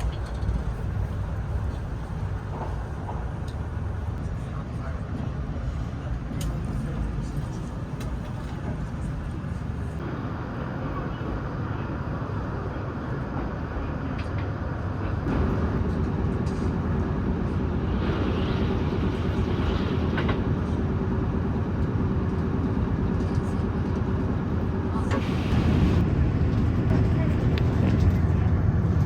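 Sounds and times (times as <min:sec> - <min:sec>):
train running rumble: 0:00.0 - 0:29.0.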